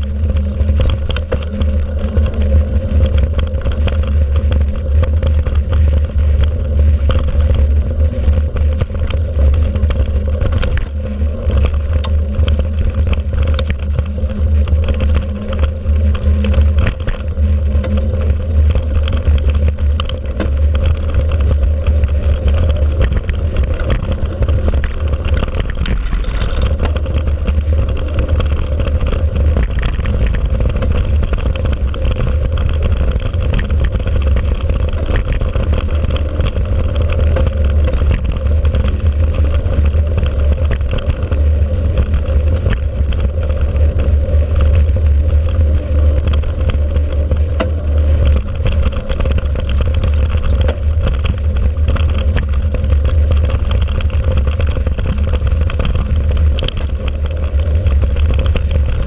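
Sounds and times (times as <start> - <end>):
bike rattles and clicks: 0.0 - 59.0
wind rumble: 0.0 - 59.0.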